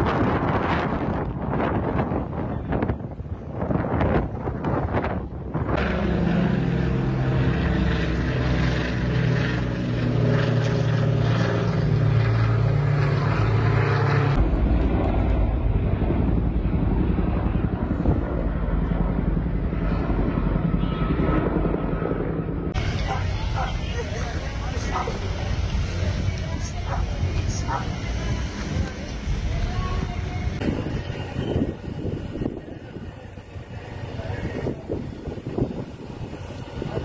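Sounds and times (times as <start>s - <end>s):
aircraft engine droning: 0.0s - 37.0s
deep rumbling noise: 0.0s - 37.0s.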